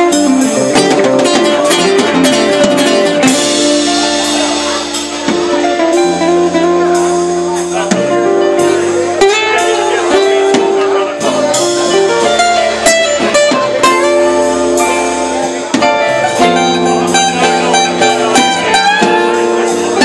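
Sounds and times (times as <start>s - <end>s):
bass guitar: 0.0s - 20.0s
drum and cymbal hits: 0.0s - 20.0s
electric guitar: 0.0s - 20.0s.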